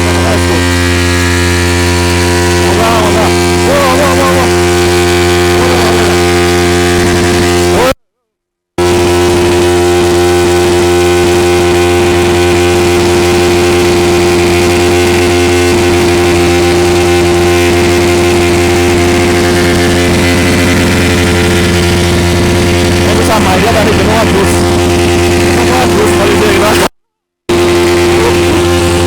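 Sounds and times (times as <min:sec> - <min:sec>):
motorcycle engine running: 0:00.0 - 0:08.0, 0:08.8 - 0:26.9, 0:27.5 - 0:29.0.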